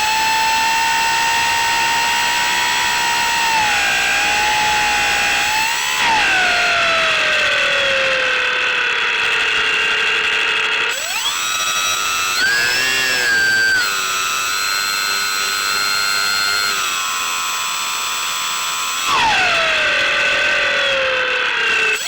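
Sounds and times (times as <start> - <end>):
model plane motor whine: 0.0 - 22.0.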